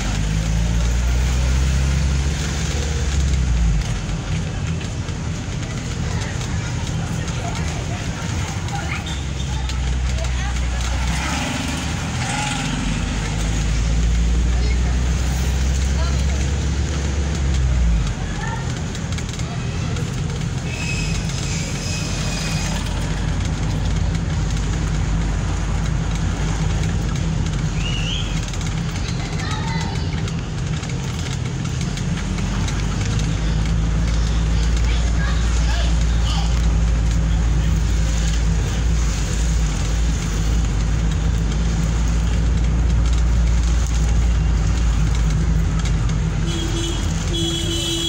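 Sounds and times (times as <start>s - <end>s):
road noise: 0.0s - 48.0s
vehicle engine rumble: 0.0s - 48.0s.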